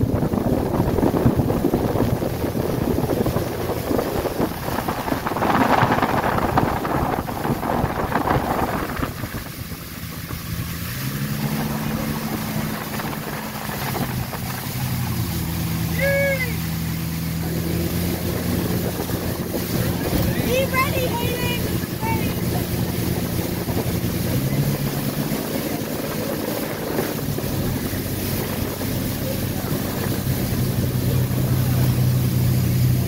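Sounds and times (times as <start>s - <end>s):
boat engine hum: 0.0s - 33.0s
rushing wake water: 0.0s - 33.0s
wind buffeting microphone: 0.0s - 33.0s.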